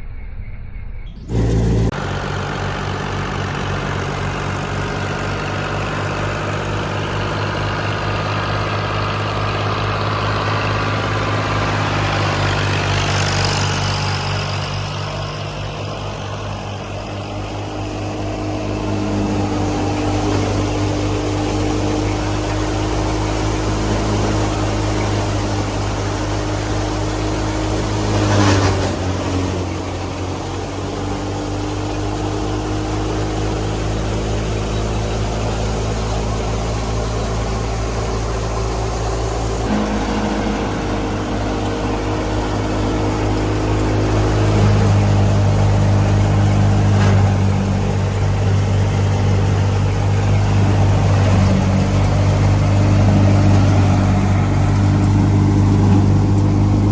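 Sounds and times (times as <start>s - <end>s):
combine harvester engine drone: 1.0s - 56.9s
threshing machinery clatter: 1.3s - 56.9s.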